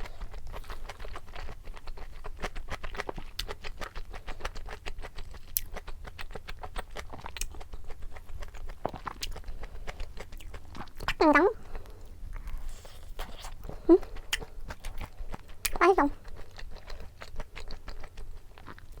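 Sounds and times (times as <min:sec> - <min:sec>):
chewing crunchy food: 0:00.0 - 0:19.0.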